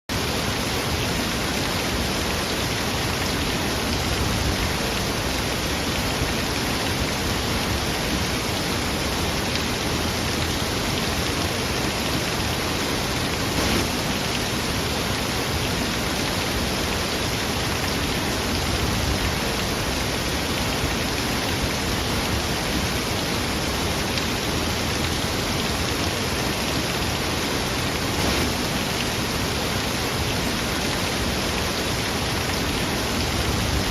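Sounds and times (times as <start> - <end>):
falling water: 0.1 - 33.9.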